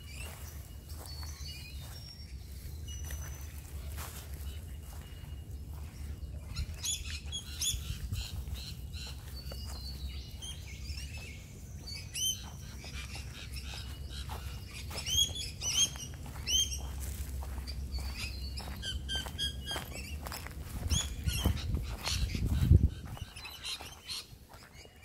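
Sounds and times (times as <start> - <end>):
small birds chirping: 0.0 - 25.0
steady low rumble: 3.5 - 23.6.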